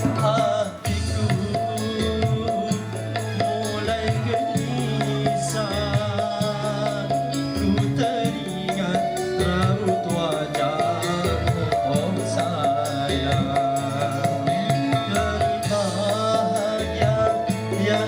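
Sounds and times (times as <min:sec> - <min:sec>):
bass notes: 0:00.0 - 0:18.0
live band music: 0:00.0 - 0:18.0.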